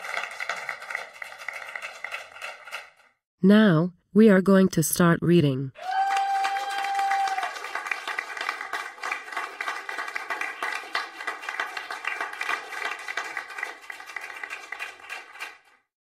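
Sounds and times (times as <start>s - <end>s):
applause: 0.0s - 3.0s, 5.8s - 15.9s.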